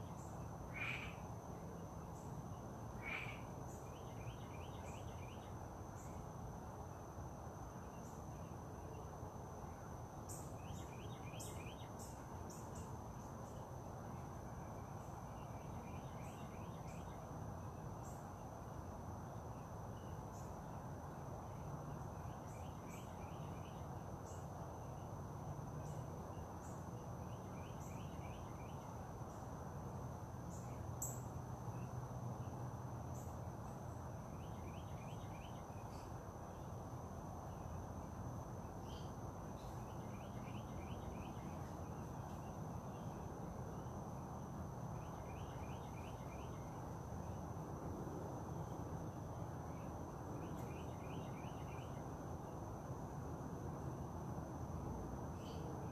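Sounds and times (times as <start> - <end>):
high insect drone: 0.0 - 55.9
low background hiss: 0.0 - 55.9.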